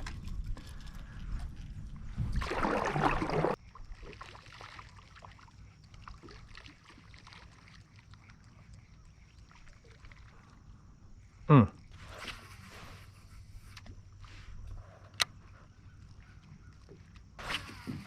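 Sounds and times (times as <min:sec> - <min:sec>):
water lapping against boat: 0:02.2 - 0:18.0.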